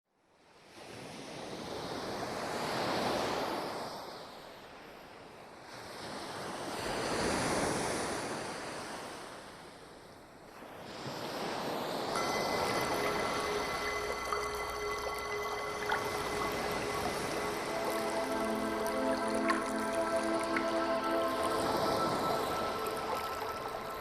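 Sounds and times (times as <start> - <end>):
sea waves washing ashore: 0.7 - 24.0.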